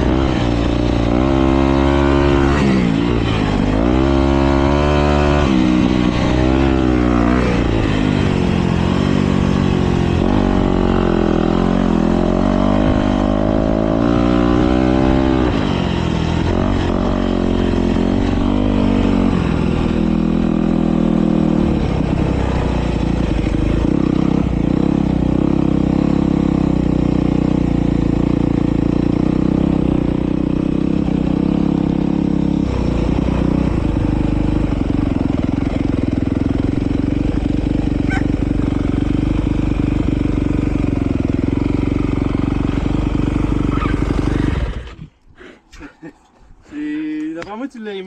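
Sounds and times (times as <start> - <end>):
motocross bike engine running: 0.0 - 45.1.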